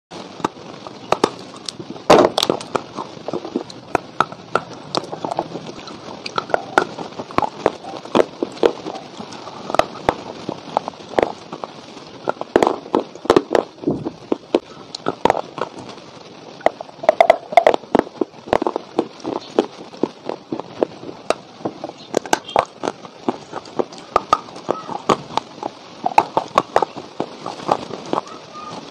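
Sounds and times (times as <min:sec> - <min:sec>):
dry clay crunching while chewed: 0:00.4 - 0:28.9.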